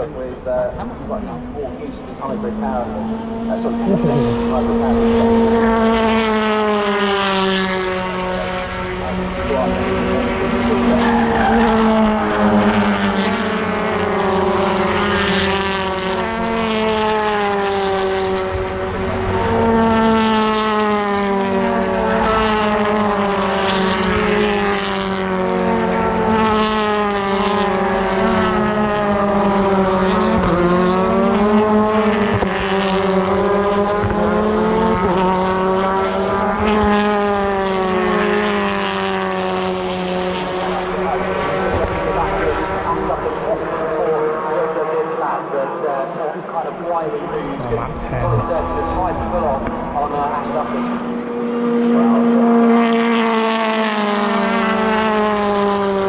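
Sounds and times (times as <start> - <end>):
race cars passing by: 0.0 - 56.0.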